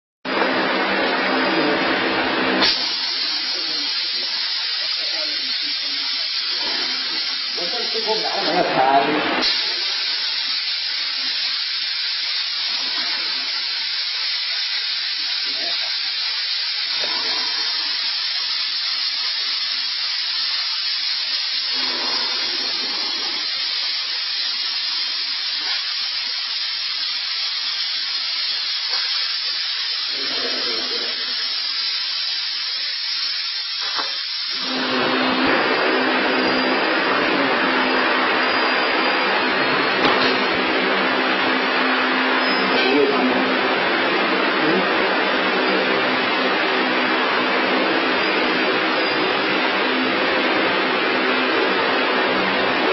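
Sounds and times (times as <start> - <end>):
fog machine hissing: 0.3 - 52.9.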